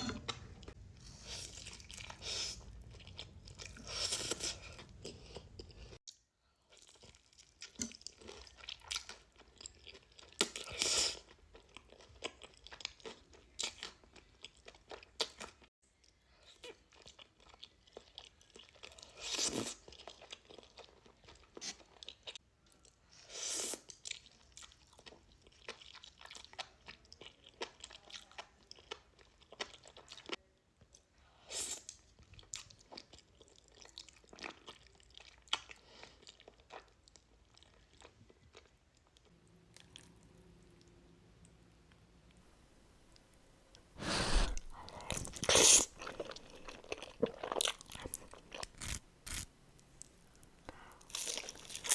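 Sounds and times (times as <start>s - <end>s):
person crunching and chewing food: 0.0s - 6.0s, 6.6s - 30.5s, 31.7s - 41.0s, 44.0s - 51.9s.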